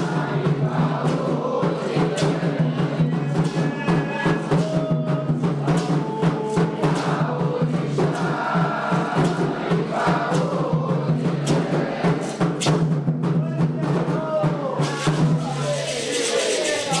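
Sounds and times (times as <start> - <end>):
group of voices chanting: 0.0 - 12.6, 13.8 - 17.0
hand drums beating fast rhythm: 0.0 - 17.0.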